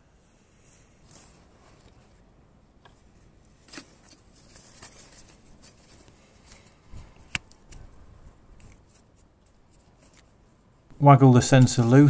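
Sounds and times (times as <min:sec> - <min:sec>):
gloved hand rustling: 0:00.6 - 0:10.7.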